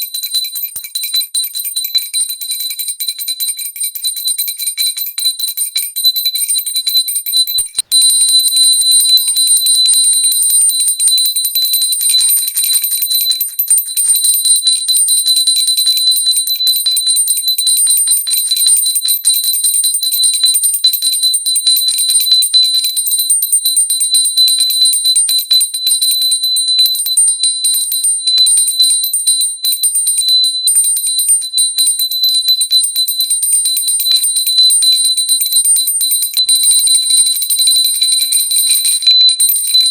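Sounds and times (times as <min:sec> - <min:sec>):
hand bell rung rapidly: 0:00.0 - 0:39.9.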